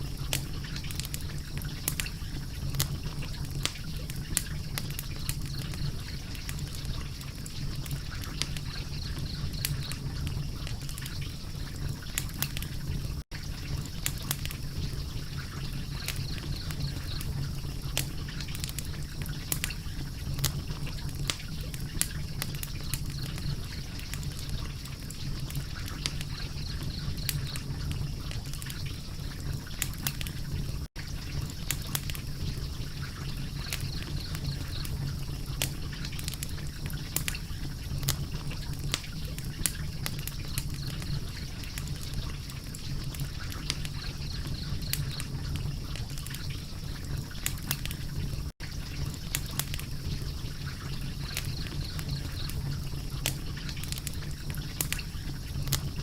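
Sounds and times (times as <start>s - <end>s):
fire crackling and popping: 0.0s - 56.0s
low rumble and hiss: 0.0s - 56.0s.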